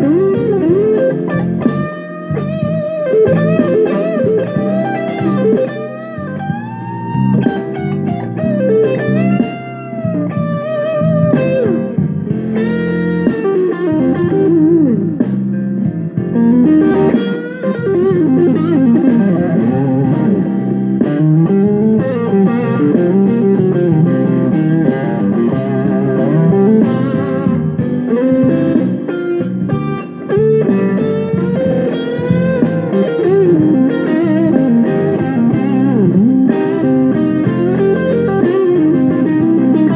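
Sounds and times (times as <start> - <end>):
backing jam track: 0.0 - 39.9
electric guitar lead: 0.0 - 39.9.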